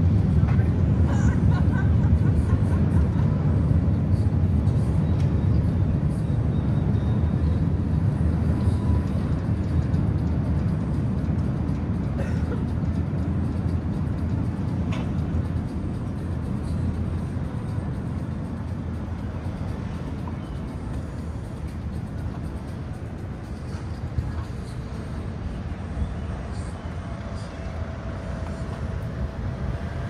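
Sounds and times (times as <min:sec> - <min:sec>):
low rumble of city noise: 0:00.0 - 0:30.0.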